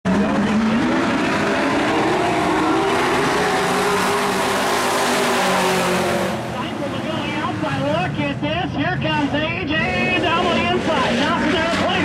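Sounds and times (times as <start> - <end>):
race truck engines roaring: 0.0 - 12.0.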